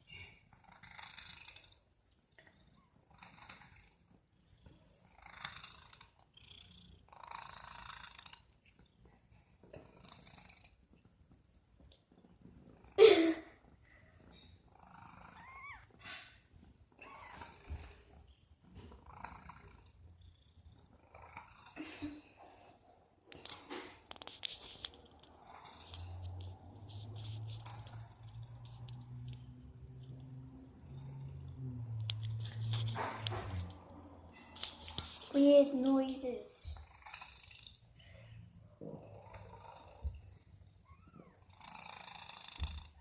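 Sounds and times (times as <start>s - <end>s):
cat purring: 0.4s - 13.0s, 13.6s - 35.6s, 36.5s - 43.0s.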